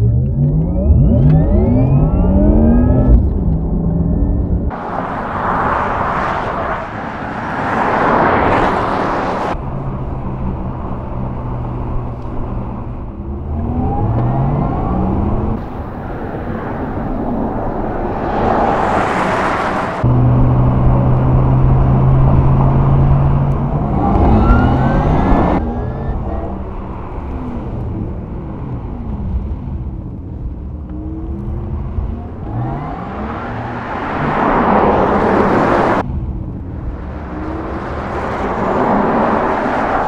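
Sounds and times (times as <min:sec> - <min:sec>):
tyres and wind rushing past: 0:00.0 - 0:40.0.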